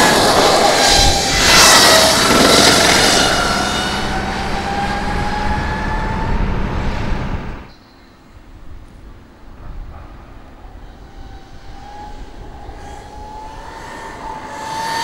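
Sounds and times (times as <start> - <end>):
wind rush: 0.0 - 7.7, 8.4 - 15.0
electric motorcycle whine: 0.0 - 15.0.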